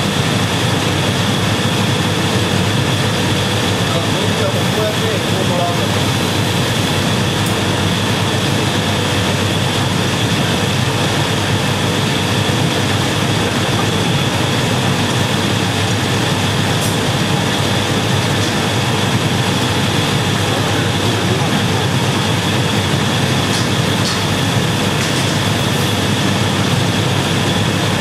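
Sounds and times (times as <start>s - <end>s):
furnace burners roaring: 0.0s - 28.0s.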